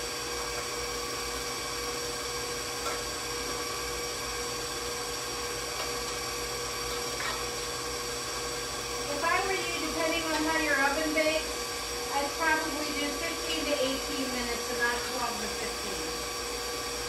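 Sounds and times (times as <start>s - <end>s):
electric stand mixer running: 0.0s - 17.0s.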